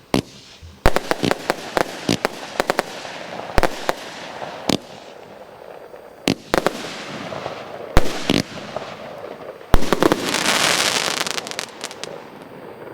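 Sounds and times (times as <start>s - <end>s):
firework crackling: 0.0s - 12.9s
firework bangs: 0.1s - 12.9s.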